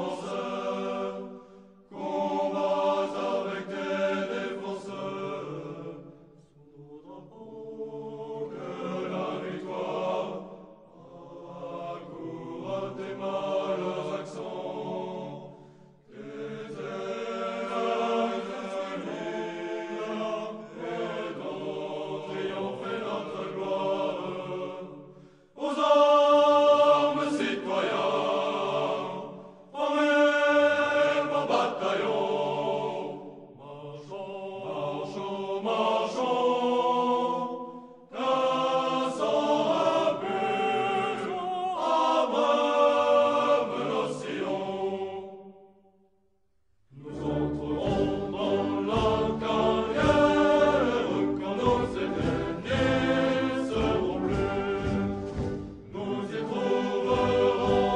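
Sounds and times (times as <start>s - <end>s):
choir singing: 0.0s - 46.0s, 46.9s - 57.9s.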